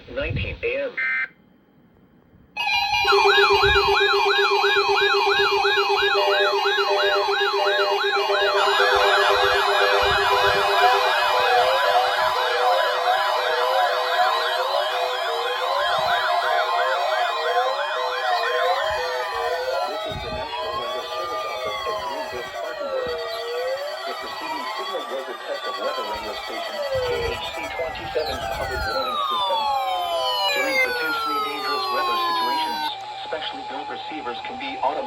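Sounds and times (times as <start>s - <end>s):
electronic sirens yelping: 2.6s - 35.0s.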